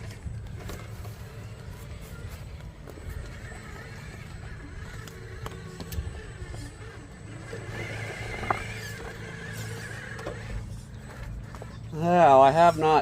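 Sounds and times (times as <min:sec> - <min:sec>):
electric motor and gears whining: 0:00.0 - 0:13.0
steady low drone: 0:00.0 - 0:13.0.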